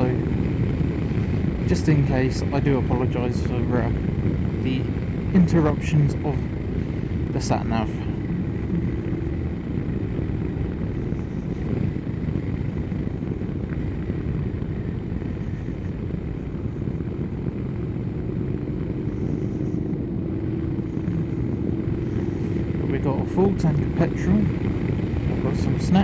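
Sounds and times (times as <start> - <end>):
motorcycle engine hum: 0.0 - 26.0
wind on microphone: 0.0 - 26.0.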